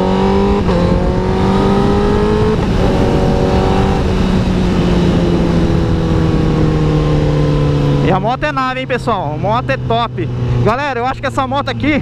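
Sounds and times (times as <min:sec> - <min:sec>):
heavy wind noise: 0:00.0 - 0:12.0
motorcycle engine accelerating: 0:00.0 - 0:12.0.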